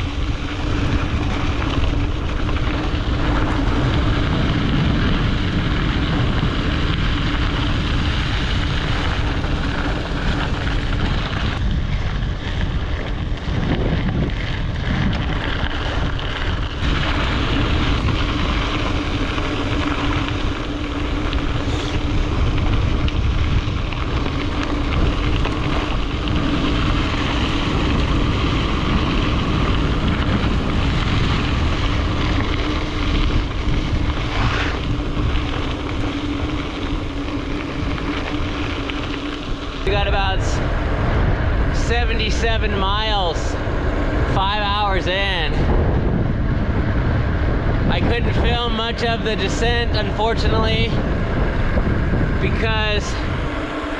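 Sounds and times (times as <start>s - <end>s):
faint constant hum: 0.0s - 53.9s
wind rushing over microphone: 0.0s - 53.9s.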